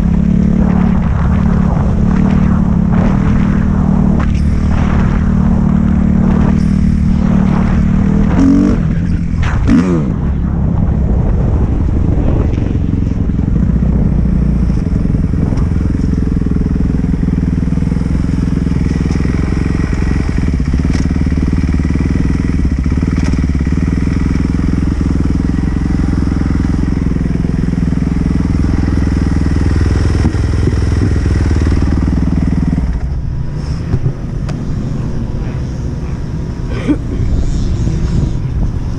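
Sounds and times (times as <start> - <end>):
dirt bike engine revving: 0.0 - 10.4, 13.0 - 38.9.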